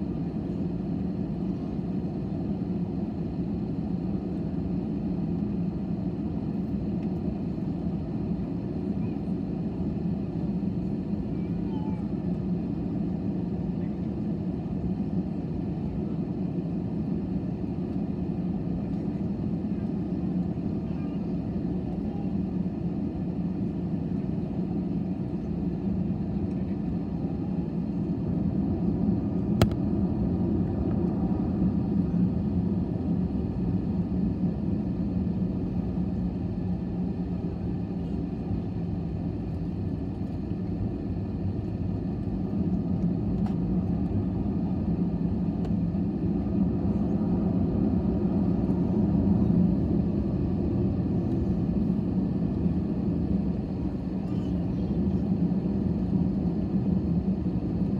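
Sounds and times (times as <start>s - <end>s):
jet airliner cabin rumble: 0.0s - 57.9s.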